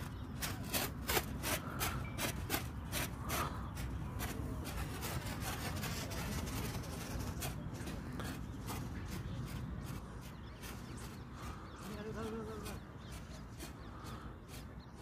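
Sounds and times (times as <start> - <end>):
rubbing scraping strokes: 0.0 - 15.0.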